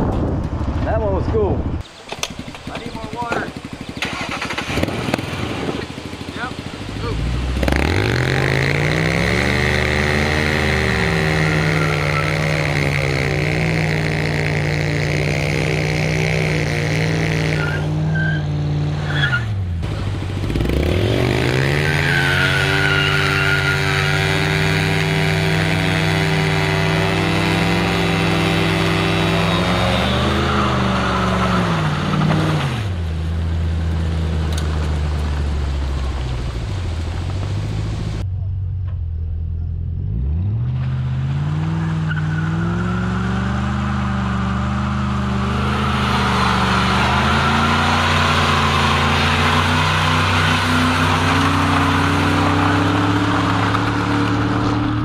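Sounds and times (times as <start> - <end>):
engine revving: 2.1 - 38.3, 39.7 - 55.0.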